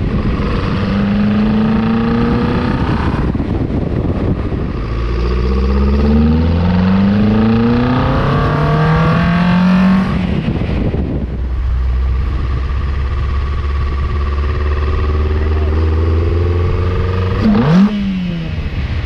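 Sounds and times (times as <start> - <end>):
car engine accelerating through gears: 0.0 - 10.6, 11.6 - 18.5.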